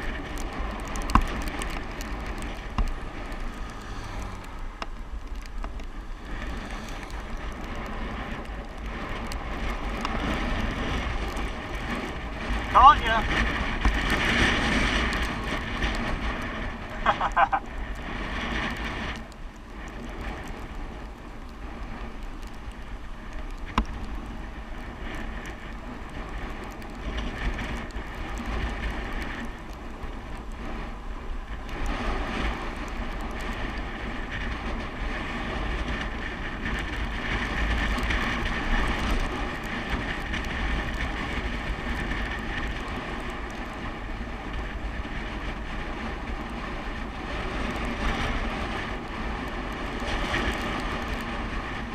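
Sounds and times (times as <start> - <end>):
bicycle tyre and road noise: 0.0 - 51.9
wind rush on microphone: 0.0 - 51.9.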